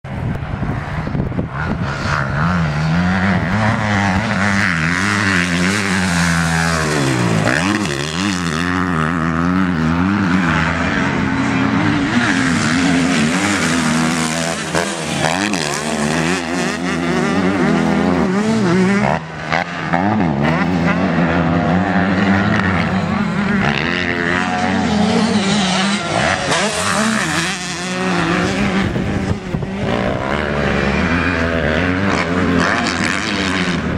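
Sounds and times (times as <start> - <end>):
motocross bike engines revving: 0.1 - 33.9.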